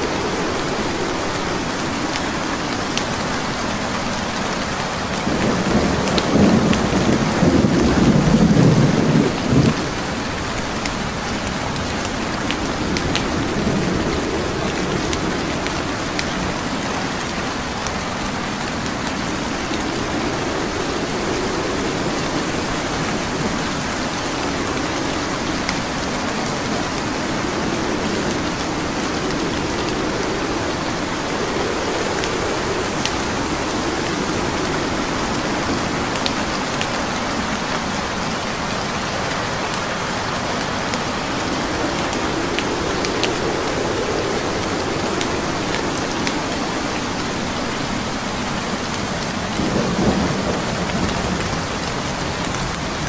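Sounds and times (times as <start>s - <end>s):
steady rain: 0.0s - 53.0s
wood logs crackling in fire: 0.0s - 53.0s
low thunder roll: 4.9s - 53.0s.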